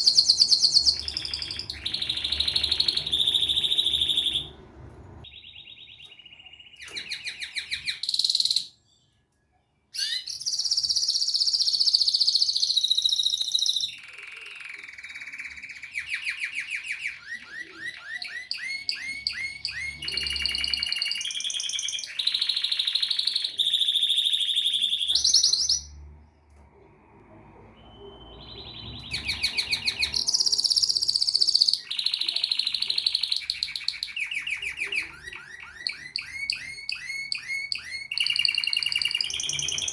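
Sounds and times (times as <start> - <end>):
canary singing trills: 0.0 - 26.1, 27.6 - 39.9.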